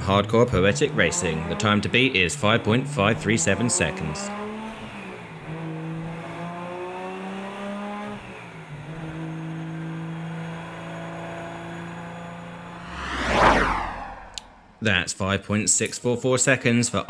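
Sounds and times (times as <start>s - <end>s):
race car engine: 0.0s - 14.9s.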